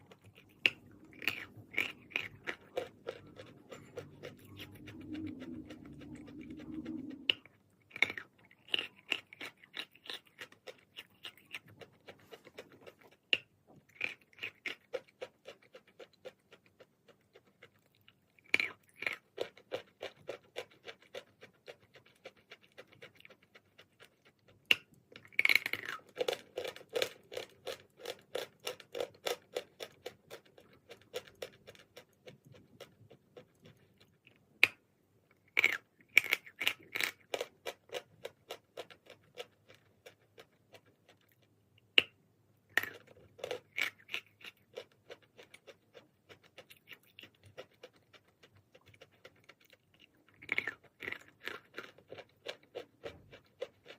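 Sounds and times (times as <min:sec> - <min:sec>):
chewing chalk: 0:00.0 - 0:53.9.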